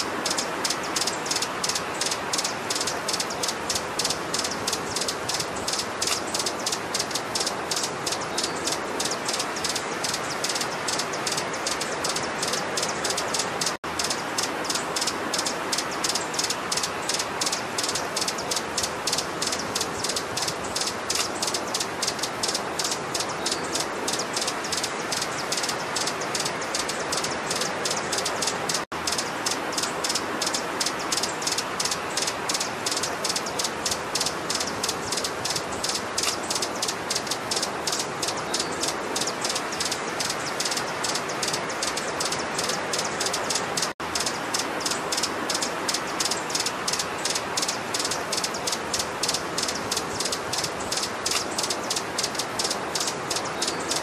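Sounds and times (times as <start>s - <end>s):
constant hiss: 0.0s - 54.0s
hummingbird chips: 0.0s - 54.0s.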